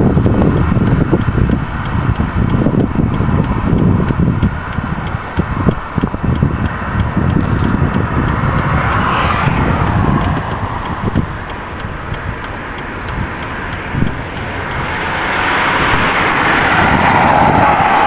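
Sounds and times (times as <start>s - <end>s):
faint regular ticking: 0.0s - 18.0s
wind buffeting microphone: 0.0s - 18.0s.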